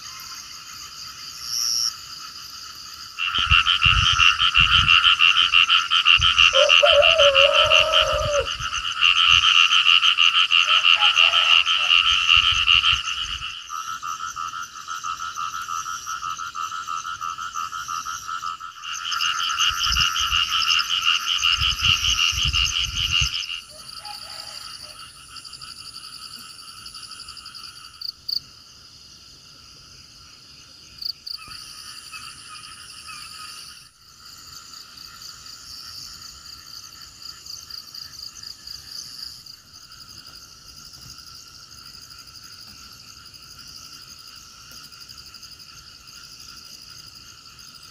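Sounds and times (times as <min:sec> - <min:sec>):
frogs croaking: 0:00.0 - 0:47.9.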